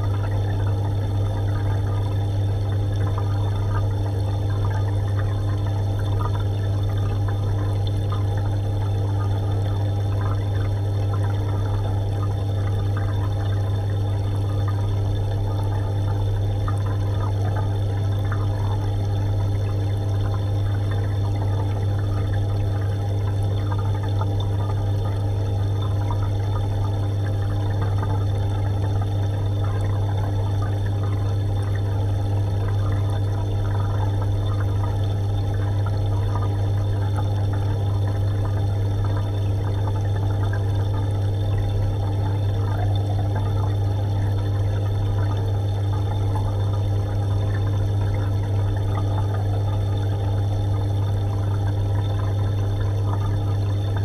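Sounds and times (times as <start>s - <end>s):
water pump humming: 0.0s - 54.0s
water trickling and bubbling: 0.0s - 54.0s.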